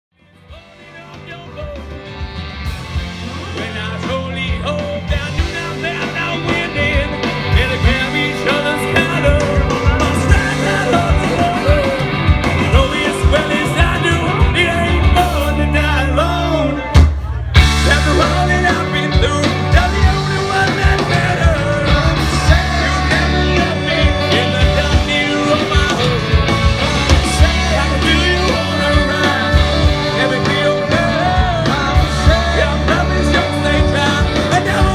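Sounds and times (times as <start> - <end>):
live rock band playing: 0.2 - 34.9.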